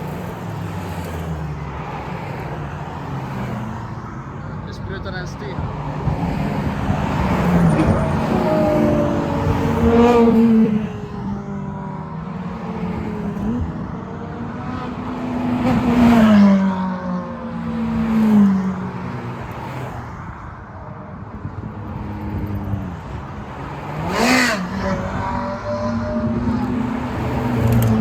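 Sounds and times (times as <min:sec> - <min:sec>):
sports cars driving past: 0:00.0 - 0:28.0.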